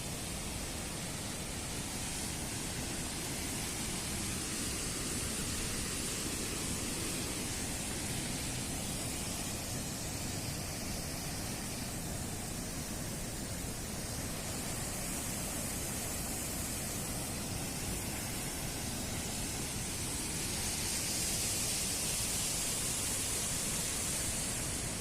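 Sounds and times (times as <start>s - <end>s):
waterfall rushing: 0.1s - 25.0s.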